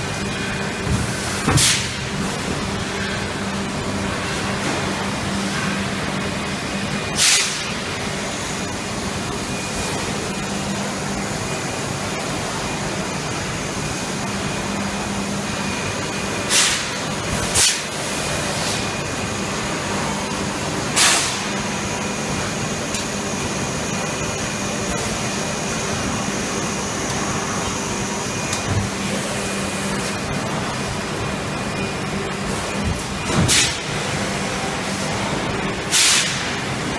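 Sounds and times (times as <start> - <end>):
machinery hum and hiss: 0.0 - 36.9.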